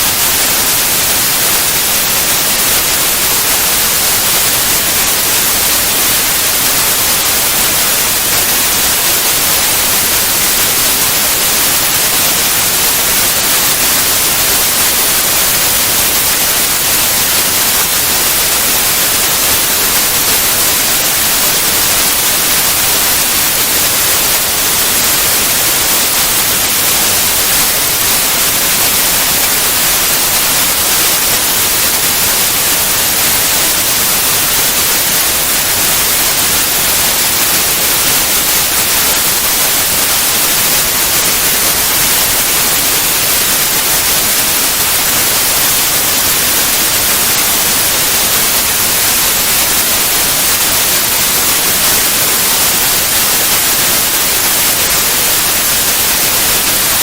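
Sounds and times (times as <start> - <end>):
loud white noise hiss: 0.0 - 57.0.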